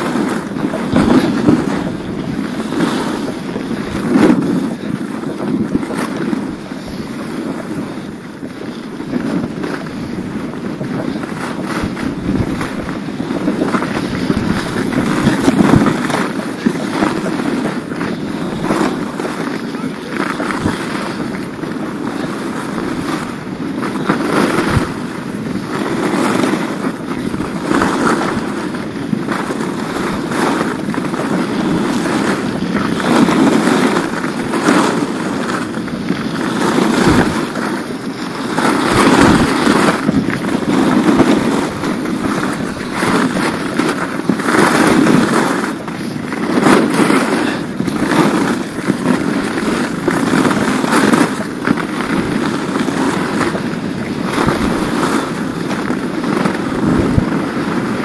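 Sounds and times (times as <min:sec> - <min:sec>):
skis scraping over snow: 0:00.0 - 0:58.0
wind noise on microphone: 0:00.0 - 0:58.0.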